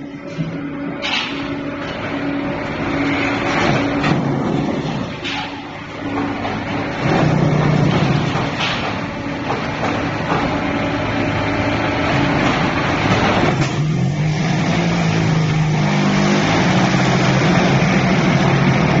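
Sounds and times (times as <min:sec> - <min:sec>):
block making machine humming: 0:00.0 - 0:19.0.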